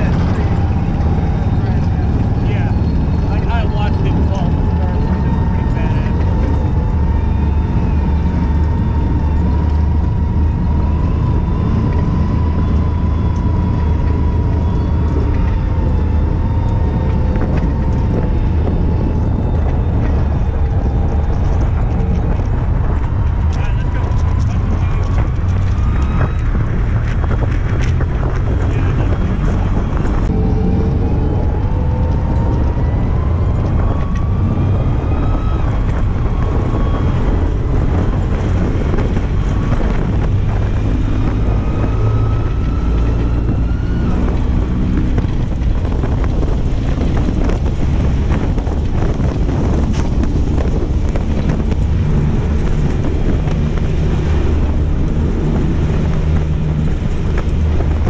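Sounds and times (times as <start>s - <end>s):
engine whine: 0.0s - 58.0s
tank engine and tracks rumbling: 0.0s - 58.0s
wind buffeting microphone: 0.0s - 58.0s.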